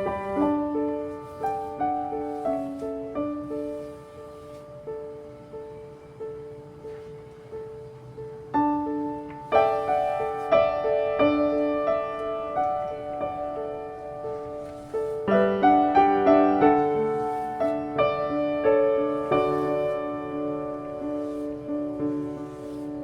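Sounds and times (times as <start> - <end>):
soft piano music: 0.0 - 23.0.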